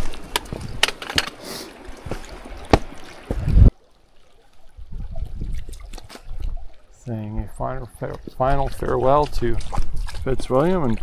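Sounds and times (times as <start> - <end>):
wind buffeting microphone: 0.0 - 1.0, 1.9 - 3.8, 4.7 - 11.0
water lapping at shore: 0.0 - 11.0.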